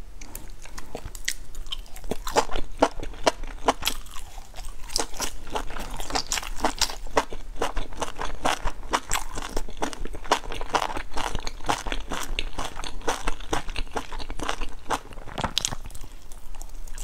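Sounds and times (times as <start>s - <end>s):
biting and chewing meat: 0.2s - 17.0s.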